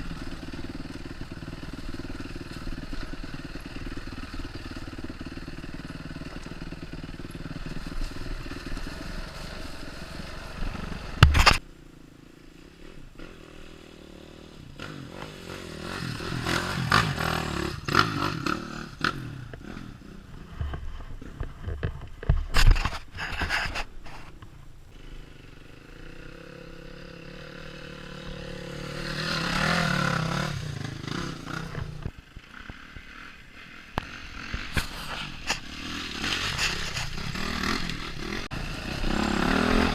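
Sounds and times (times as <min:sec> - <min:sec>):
motorcycle engine revving: 0:00.0 - 0:22.2, 0:24.9 - 0:39.9.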